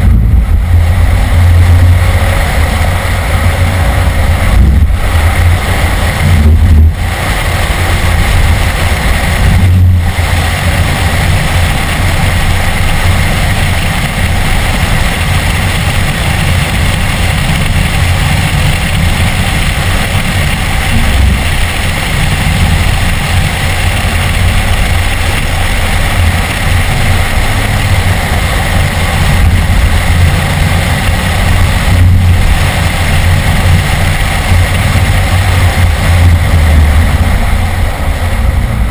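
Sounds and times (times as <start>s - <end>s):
car engine running hard: 0.0s - 38.9s
road and wind noise: 0.0s - 38.9s.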